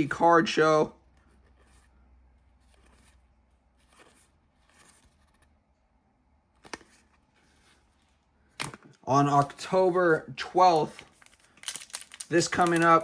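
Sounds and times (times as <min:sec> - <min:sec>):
soft rustles of cards: 0:01.0 - 0:13.0.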